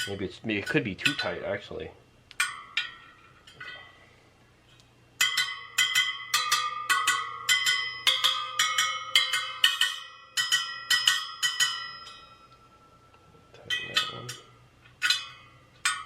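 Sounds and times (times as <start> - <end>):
wheel spokes pinged ringing: 0.0 - 1.8, 2.4 - 4.0, 5.2 - 16.0.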